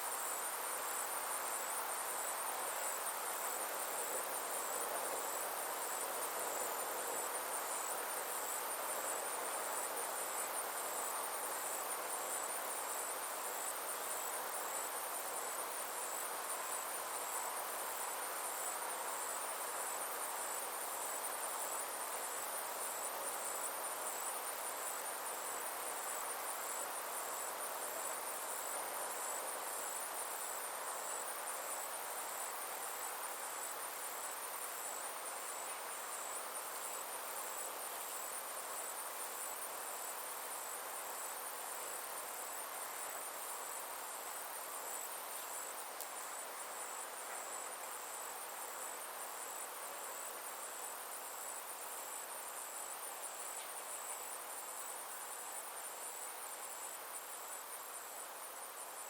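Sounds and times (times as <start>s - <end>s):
insect trill: 0.0s - 59.0s
pulsing insect chirp: 0.0s - 59.0s
soft background hiss: 0.0s - 59.0s.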